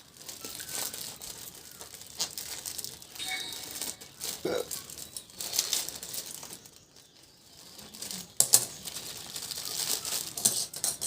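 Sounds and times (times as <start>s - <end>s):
packaging rustling and crinkling: 0.0s - 11.0s
sharp packaging crackle: 0.0s - 11.0s.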